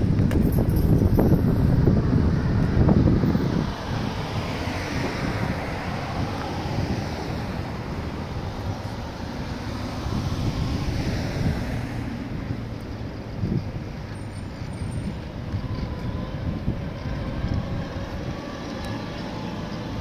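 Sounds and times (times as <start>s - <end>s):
wind buffeting microphone: 0.0s - 20.0s
hiss of passing vehicles: 1.7s - 20.0s
car passing by: 1.8s - 20.0s.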